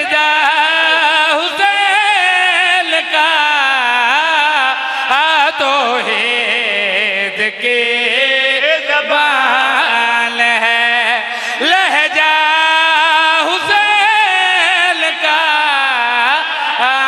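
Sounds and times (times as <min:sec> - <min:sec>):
man chanting melismatic verse: 0:00.0 - 0:17.0.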